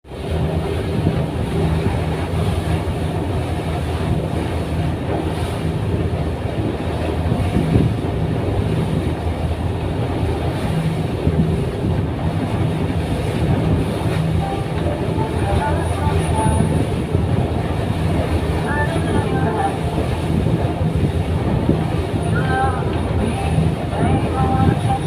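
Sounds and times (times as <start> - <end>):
boat engines droning: 0.1 - 25.0.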